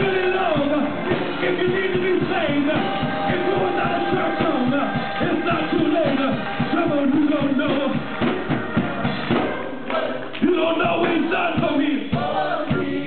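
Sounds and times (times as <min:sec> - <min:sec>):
gospel choir singing with band: 0:00.0 - 0:13.0.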